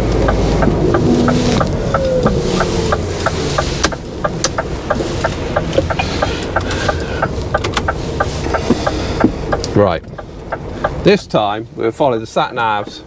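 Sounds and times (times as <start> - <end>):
hazard light indicator ticking: 0.0 - 11.3
diesel engine running: 0.0 - 11.9.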